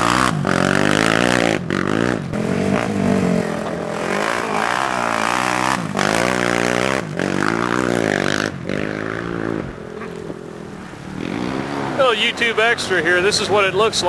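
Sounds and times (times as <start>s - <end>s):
quad engine accelerating: 0.0s - 14.0s.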